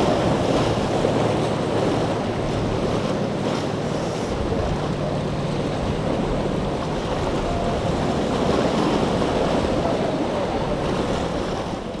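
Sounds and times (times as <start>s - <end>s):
boat engines rumbling: 0.0s - 12.0s
surf and waves: 0.0s - 12.0s.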